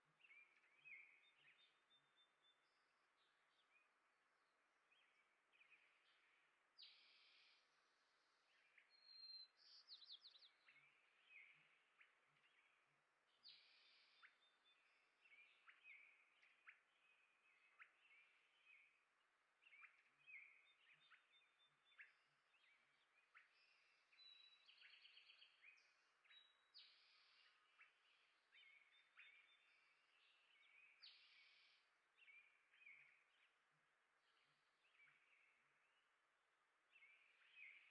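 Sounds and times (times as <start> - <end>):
small songbirds chirping: 0.0 - 37.9.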